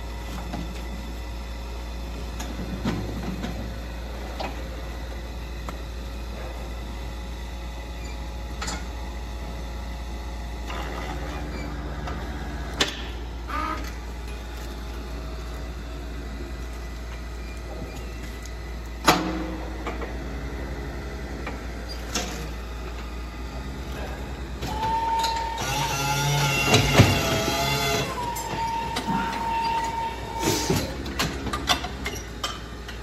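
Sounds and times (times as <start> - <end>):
low machinery hum: 0.0 - 33.0.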